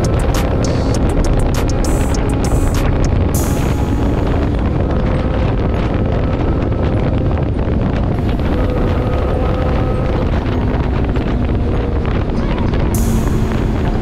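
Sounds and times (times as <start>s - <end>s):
motorcycle engine cruising: 0.0s - 14.0s
wind buffeting microphone: 0.0s - 14.0s.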